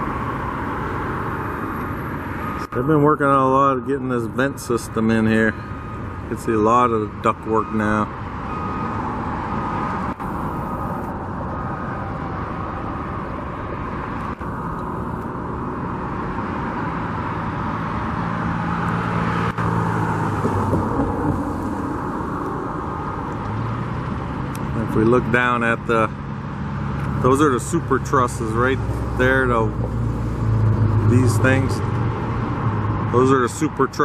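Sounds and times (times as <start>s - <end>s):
engine low hum: 0.0s - 34.0s
road traffic from passing cars: 0.0s - 34.0s.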